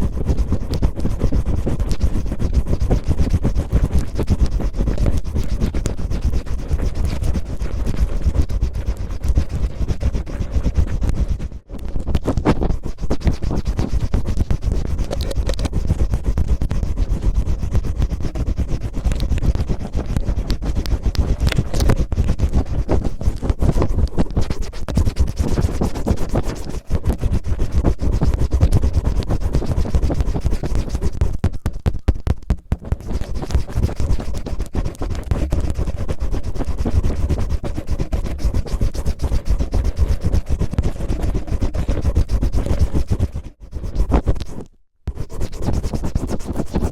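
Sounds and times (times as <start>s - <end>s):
cellophane crinkling and scratching: 0.0s - 46.9s.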